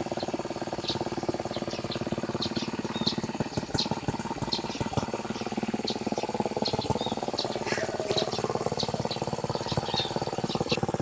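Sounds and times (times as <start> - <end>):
tractor engine running: 0.0 - 11.0
small birds chirping: 0.1 - 11.0.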